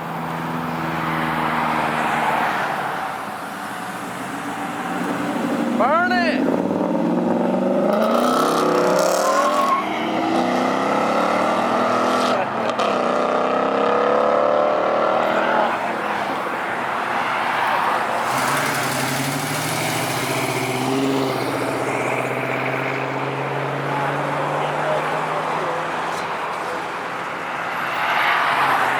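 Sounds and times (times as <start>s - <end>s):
car engines accelerating: 0.0s - 28.9s.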